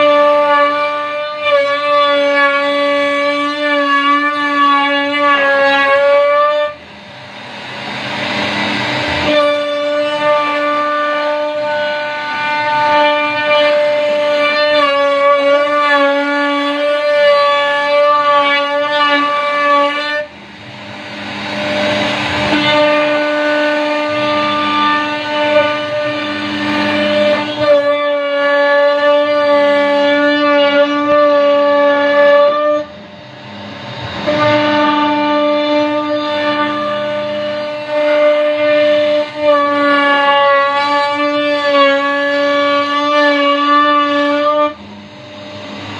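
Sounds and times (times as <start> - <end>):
router spindle whining: 0.0 - 45.9.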